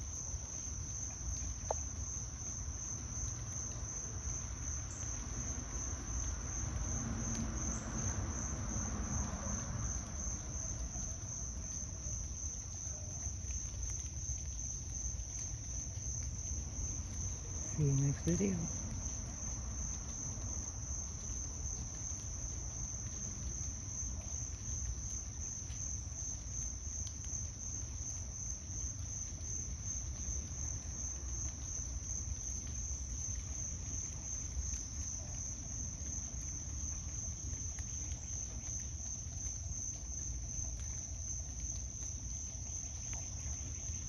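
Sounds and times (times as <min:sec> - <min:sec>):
insects trilling: 0:00.0 - 0:44.0.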